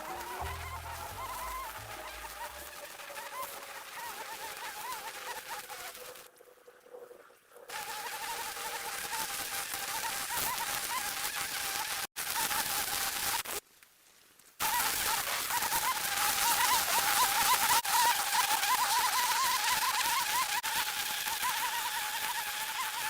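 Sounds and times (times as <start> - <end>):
string trimmer cutting grass: 0.0 - 6.3, 7.7 - 13.6, 14.6 - 23.0.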